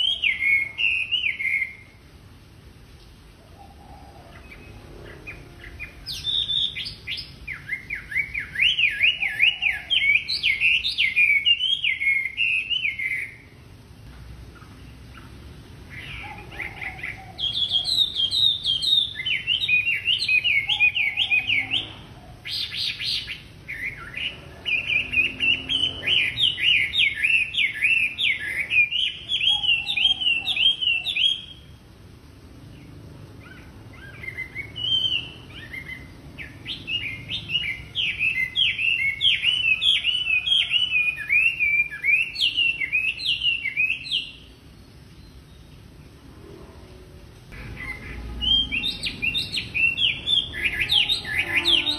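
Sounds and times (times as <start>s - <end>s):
bird singing whistled notes: 0.0s - 2.0s, 3.6s - 13.5s, 15.9s - 31.6s, 33.4s - 45.8s, 47.6s - 51.9s.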